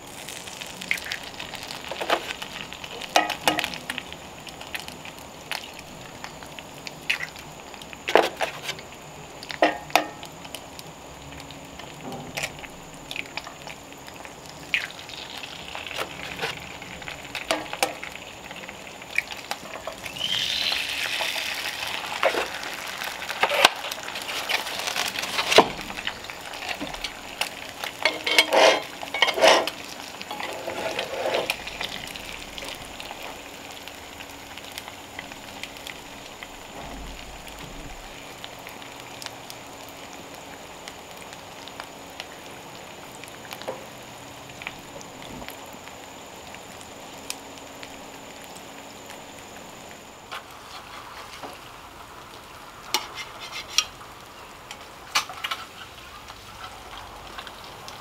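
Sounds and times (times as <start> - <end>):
food sizzling in skillets: 0.0 - 58.0.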